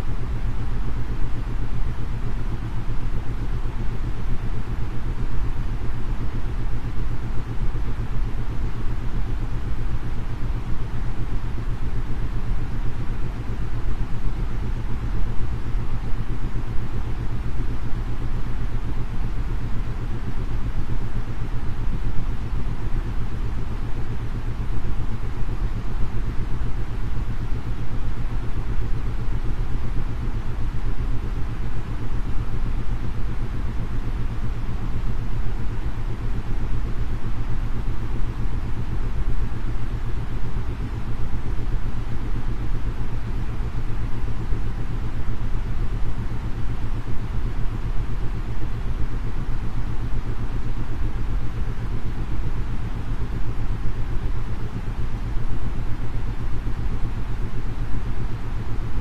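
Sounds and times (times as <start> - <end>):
white-noise hiss: 0.0 - 59.0.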